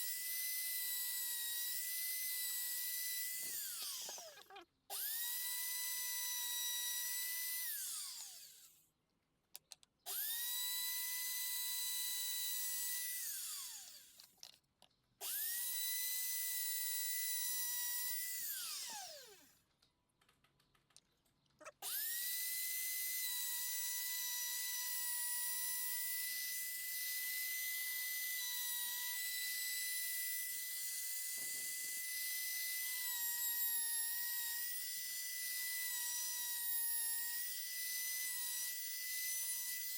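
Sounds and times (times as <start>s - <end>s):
router motor whining: 0.0s - 8.8s, 10.1s - 14.3s, 15.2s - 19.6s, 21.6s - 39.9s.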